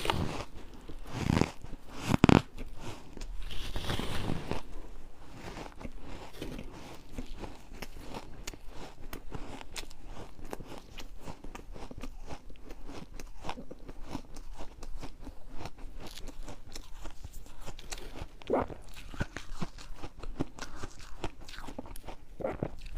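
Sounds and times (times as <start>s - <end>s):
ice being chewed: 0.0s - 22.9s.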